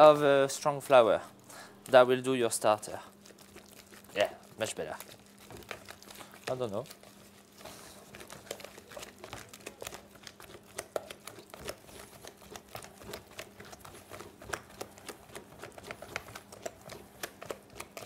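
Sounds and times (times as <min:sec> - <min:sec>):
wooden spoon stirring dough in bowl: 0:01.9 - 0:18.0.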